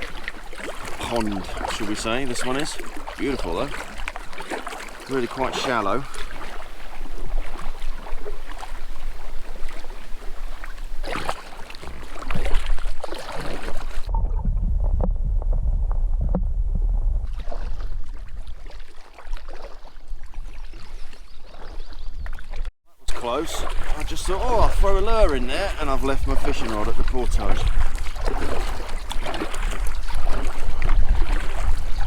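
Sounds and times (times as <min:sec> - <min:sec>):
paddle splashing in water: 0:00.0 - 0:32.0
wind rumbling on microphone: 0:06.0 - 0:32.0.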